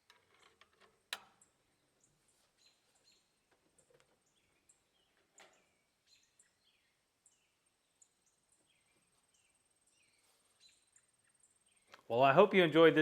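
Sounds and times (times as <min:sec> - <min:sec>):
faint bird chirps: 0:01.3 - 0:12.0.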